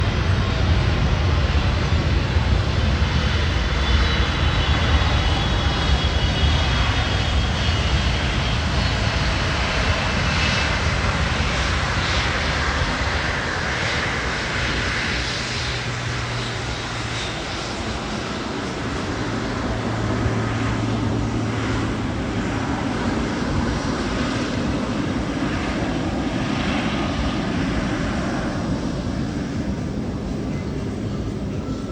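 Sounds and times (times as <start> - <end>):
jet engines passing: 0.0 - 31.9.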